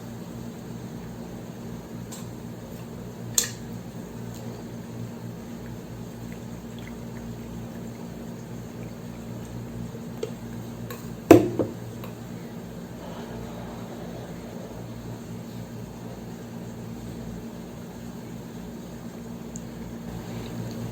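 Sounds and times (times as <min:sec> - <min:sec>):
low room hum: 0:00.0 - 0:20.9.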